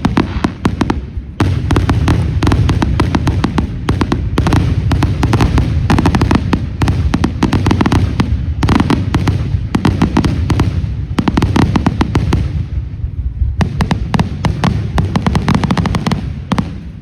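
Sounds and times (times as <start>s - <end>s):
fireworks booming: 0.0s - 17.0s
fireworks crackling: 0.0s - 17.0s.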